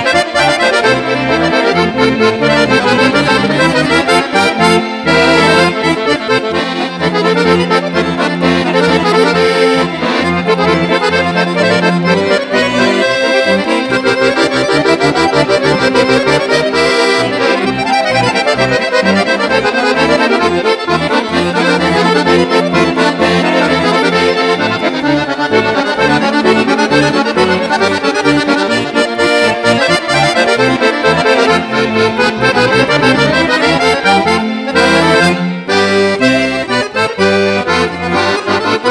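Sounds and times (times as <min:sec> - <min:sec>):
accordions playing folk music: 0:00.0 - 0:38.9.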